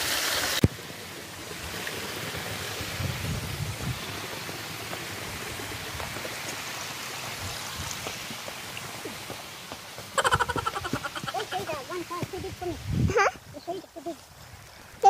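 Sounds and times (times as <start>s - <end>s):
creek rushing over rocks: 0.0s - 15.0s
waterfall rushing over rock: 0.0s - 15.0s.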